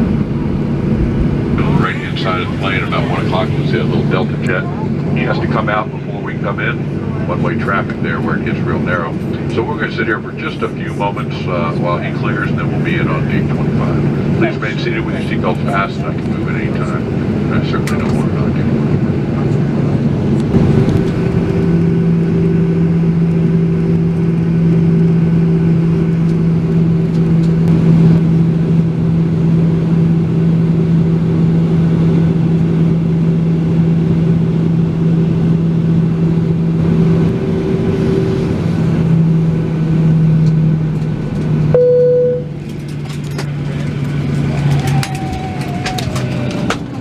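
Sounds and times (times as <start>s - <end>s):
air conditioning drone: 0.0s - 47.0s
jet engines idling: 0.0s - 47.0s.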